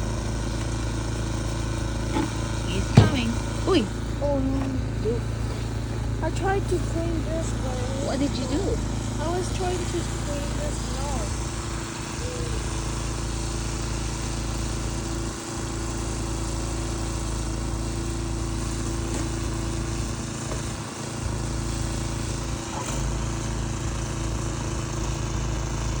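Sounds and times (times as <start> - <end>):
motor droning: 0.0 - 26.0.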